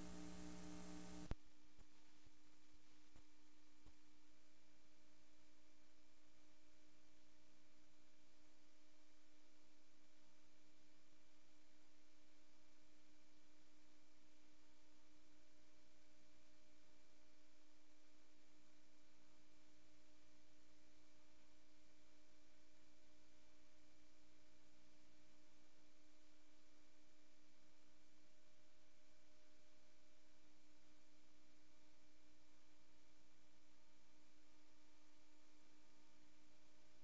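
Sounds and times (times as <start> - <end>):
faint electrical hum: 0.0 - 37.0
soft hiss: 0.0 - 37.0.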